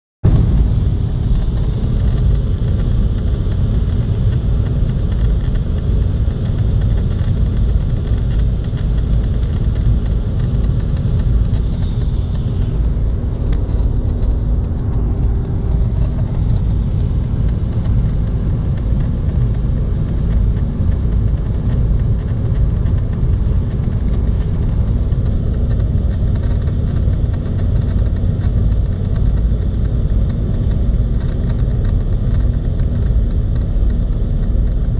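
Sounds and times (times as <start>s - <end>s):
car road and engine rumble: 0.2s - 34.9s.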